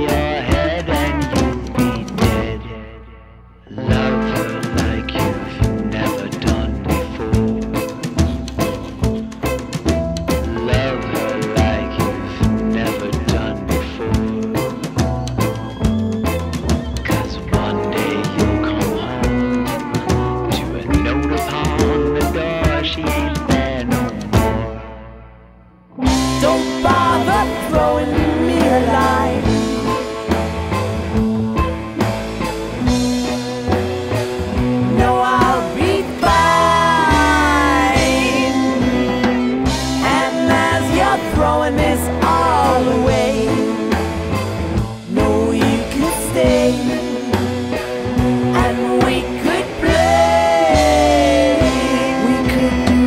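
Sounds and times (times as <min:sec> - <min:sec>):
bluegrass band playing: 0:00.0 - 0:02.8, 0:03.8 - 0:25.1, 0:26.0 - 0:53.0
drums: 0:00.0 - 0:03.0, 0:03.6 - 0:25.2, 0:25.9 - 0:53.0
bass: 0:00.0 - 0:53.0.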